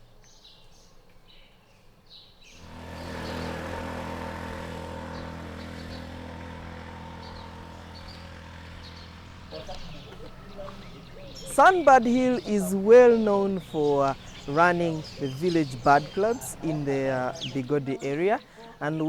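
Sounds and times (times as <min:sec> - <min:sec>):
birds chirping: 0:02.2 - 0:19.0
motor hum: 0:02.6 - 0:18.2.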